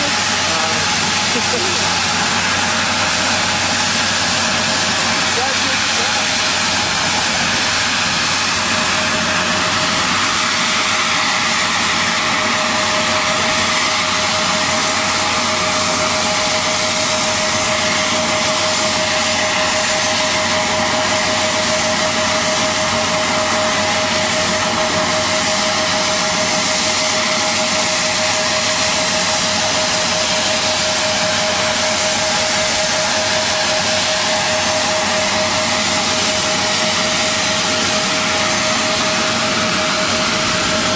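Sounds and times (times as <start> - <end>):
de-icing machinery roar: 0.0 - 40.9
steady machine whine: 0.0 - 40.9.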